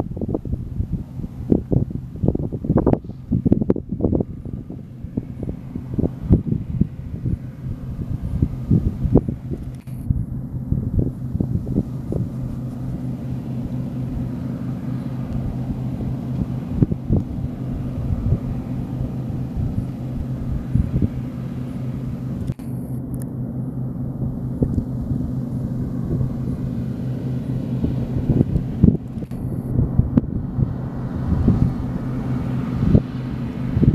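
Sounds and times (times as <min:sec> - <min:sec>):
combine harvester engine droning: 0:00.0 - 0:33.9.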